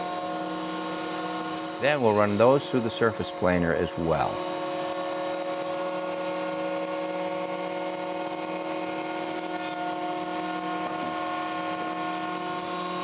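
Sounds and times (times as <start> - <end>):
surface planer whining: 0.0 - 13.0.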